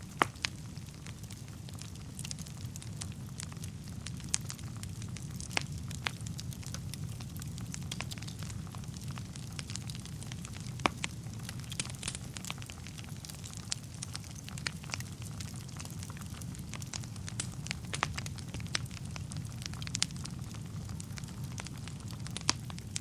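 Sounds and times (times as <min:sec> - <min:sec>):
fire crackles and pops: 0:00.0 - 0:23.0
wood fire burning: 0:00.0 - 0:23.0.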